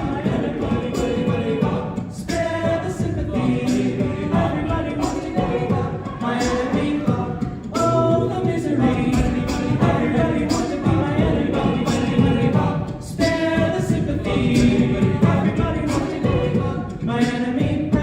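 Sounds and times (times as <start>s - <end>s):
a cappella group singing: 0.0s - 18.0s.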